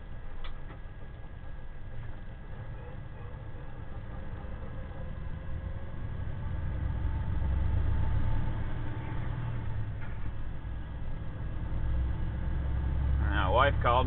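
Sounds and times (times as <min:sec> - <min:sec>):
truck diesel engine rumble: 0:00.0 - 0:14.0.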